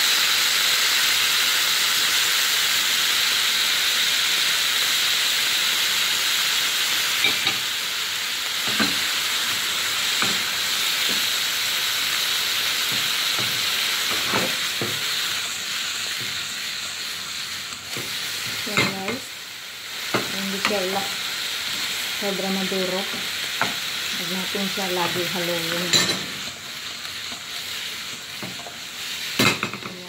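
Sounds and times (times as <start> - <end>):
food sizzling in a wok: 0.0 - 30.0.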